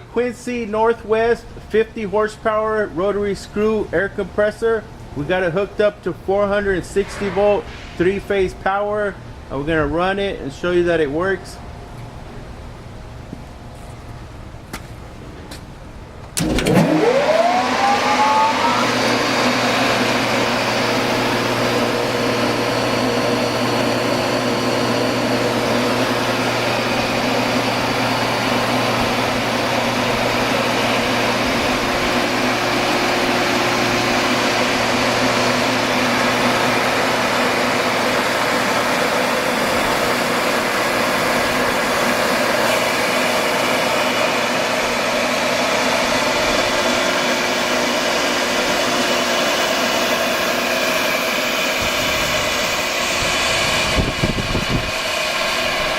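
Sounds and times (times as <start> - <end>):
air compressor starting and running: 0.0 - 10.4, 11.9 - 55.9.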